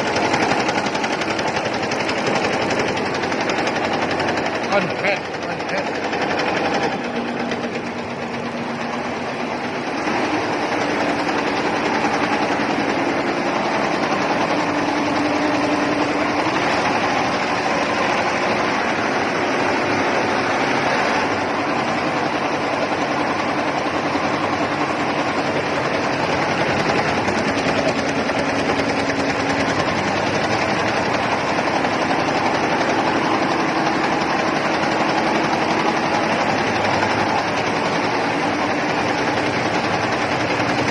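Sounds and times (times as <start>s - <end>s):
embroidery machine stitching: 0.0s - 40.9s.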